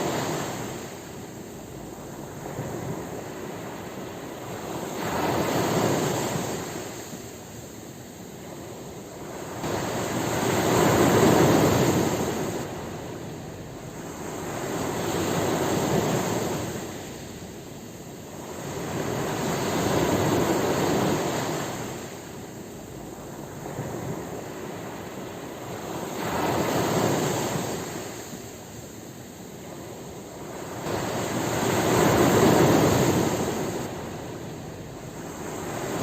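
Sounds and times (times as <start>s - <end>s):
ocean waves breaking on shore: 0.0s - 36.0s.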